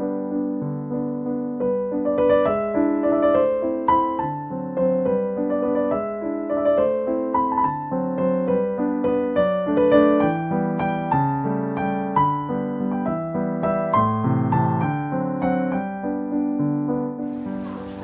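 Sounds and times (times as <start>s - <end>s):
solo piano piece: 0.0s - 18.0s.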